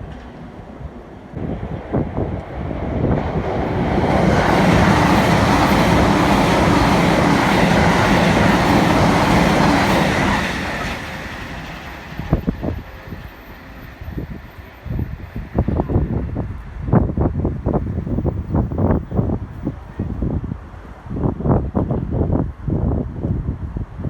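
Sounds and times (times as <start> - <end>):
train passing: 0.0 - 22.4
wind gusts on microphone: 0.0 - 24.0.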